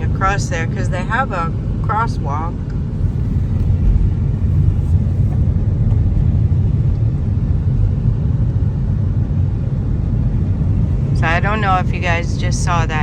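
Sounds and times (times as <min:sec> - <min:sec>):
car driving on road: 0:00.0 - 0:13.0.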